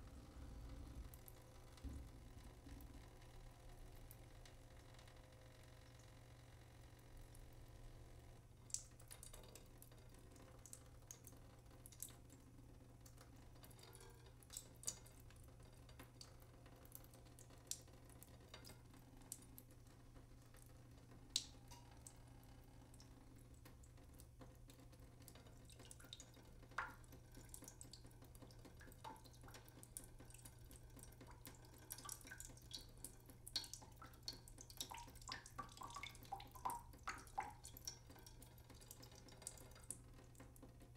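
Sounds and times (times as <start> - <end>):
water dripping: 0.0 - 5.2, 7.0 - 40.9
faint low hum: 0.0 - 40.9.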